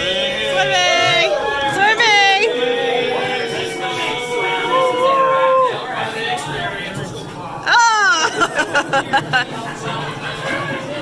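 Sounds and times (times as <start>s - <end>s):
music with singing voices: 0.0s - 11.0s.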